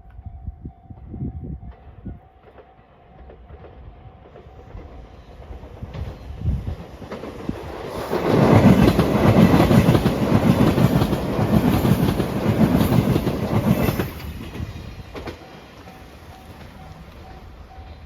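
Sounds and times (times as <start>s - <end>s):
electric train passing: 0.0s - 18.0s.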